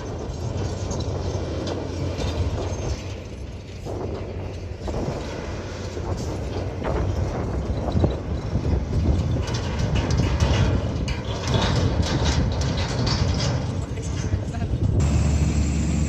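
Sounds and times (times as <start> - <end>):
metallic clanks and rattles: 0.0 - 15.1
diesel machinery rumbling: 0.0 - 16.0.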